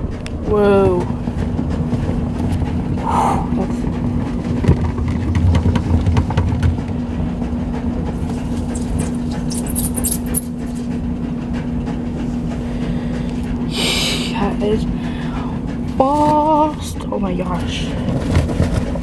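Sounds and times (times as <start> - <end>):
laundry machine humming: 0.0 - 19.0.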